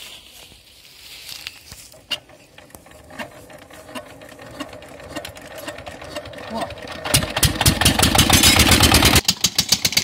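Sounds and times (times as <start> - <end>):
engine crank clicking: 1.9 - 10.0.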